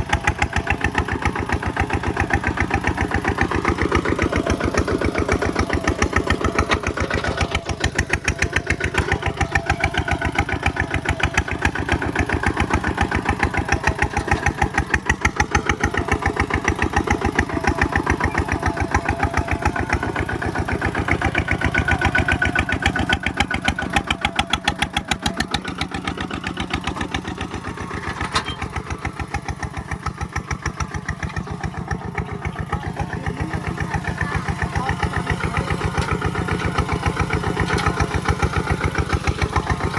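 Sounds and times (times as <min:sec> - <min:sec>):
single-cylinder diesel engine running: 0:00.0 - 0:39.9.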